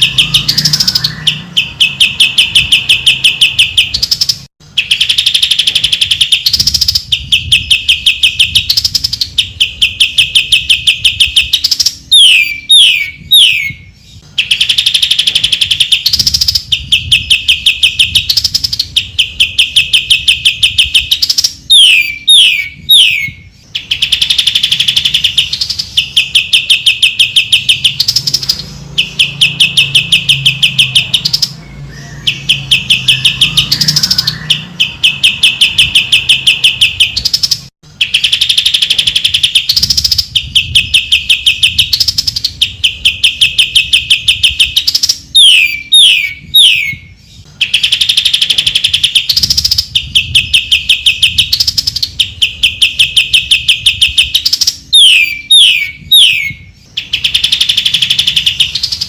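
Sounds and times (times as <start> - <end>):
bird downward-sweeping whistles: 0.0 - 59.0
bird singing high-pitched trills: 0.0 - 59.0.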